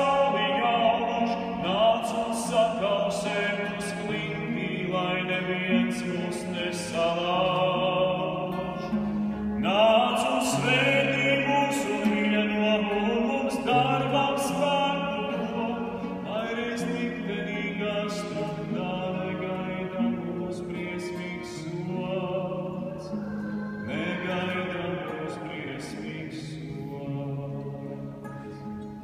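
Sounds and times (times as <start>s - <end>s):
man singing: 0.0s - 28.3s
classical guitar chords: 0.0s - 29.0s.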